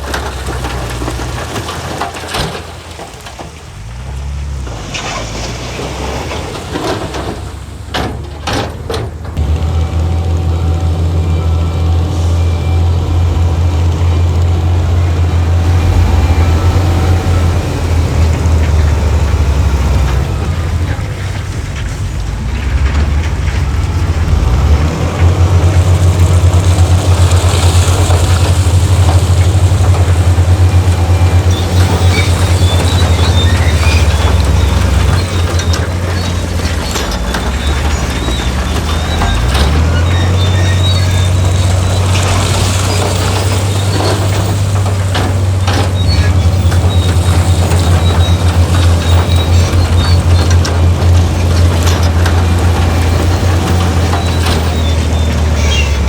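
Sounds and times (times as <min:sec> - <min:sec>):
heavy diesel engine throbbing: 0:00.0 - 0:56.0.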